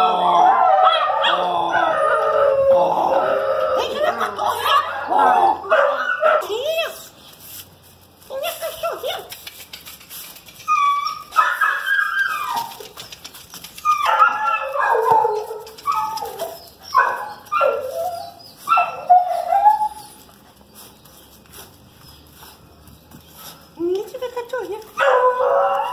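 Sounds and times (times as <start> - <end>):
puppies barking and yelping: 0.0 - 6.8, 8.7 - 23.8, 24.8 - 25.9.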